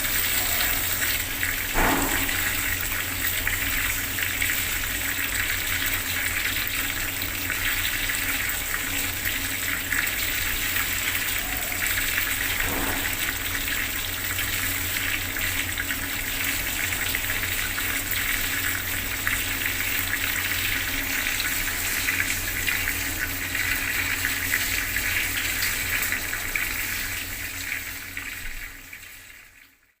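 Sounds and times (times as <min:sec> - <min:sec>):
water tap running: 0:00.0 - 0:30.0.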